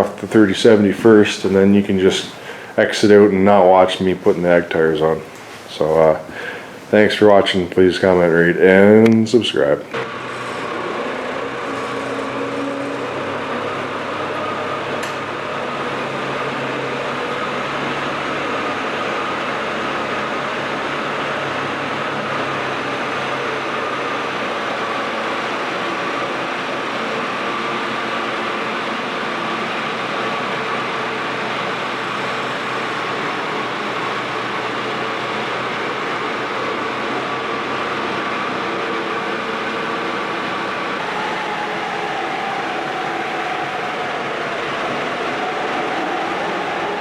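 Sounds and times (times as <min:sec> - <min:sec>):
tractor running: 0:00.0 - 0:47.0
whine falling in pitch: 0:00.0 - 0:47.0.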